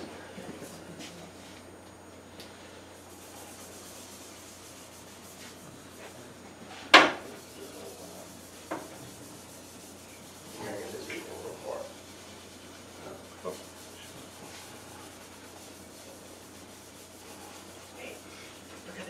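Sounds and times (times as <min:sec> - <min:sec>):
glove rubbing on wood: 0:02.9 - 0:19.0.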